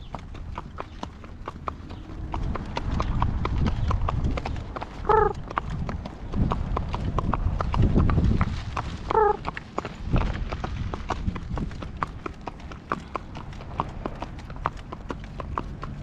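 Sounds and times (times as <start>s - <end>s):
hooves clip-clopping on pavement: 0.0s - 16.0s.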